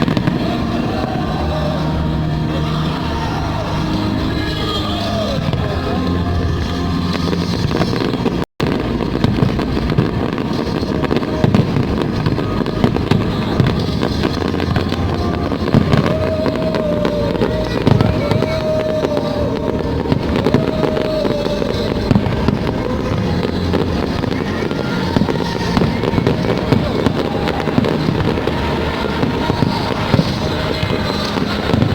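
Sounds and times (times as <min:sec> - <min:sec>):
firework bangs and crackles: 0:00.0 - 0:31.9
music: 0:00.0 - 0:31.9.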